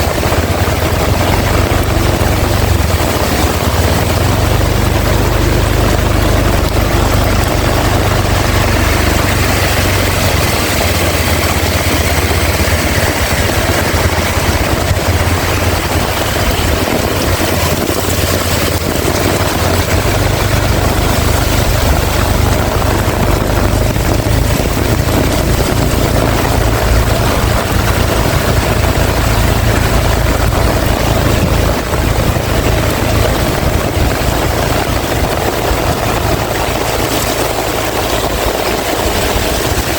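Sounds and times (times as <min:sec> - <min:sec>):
heavy rain falling: 0:00.0 - 0:39.9
wind rumbling on microphone: 0:00.0 - 0:39.9.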